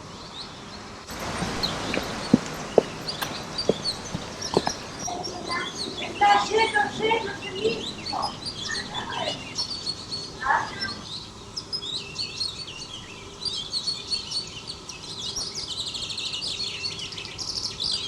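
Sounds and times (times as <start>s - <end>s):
small birds chirping: 0.0s - 18.0s
bird trill: 1.1s - 18.0s.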